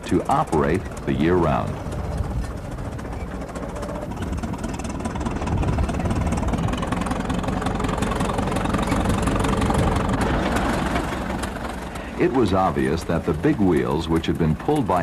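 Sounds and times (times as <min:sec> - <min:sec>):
crawler tractor engine running: 0:00.0 - 0:15.0.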